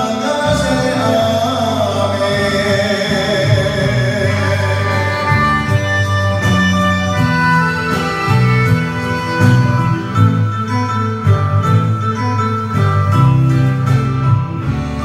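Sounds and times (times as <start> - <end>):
karaoke backing track with guitar: 0.0 - 15.0.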